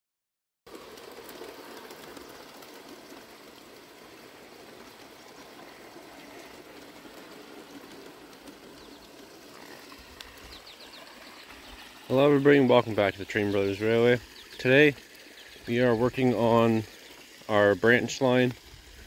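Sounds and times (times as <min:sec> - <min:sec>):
small waterfall trickling: 0:00.7 - 0:19.0
faint birdsong: 0:00.8 - 0:18.6.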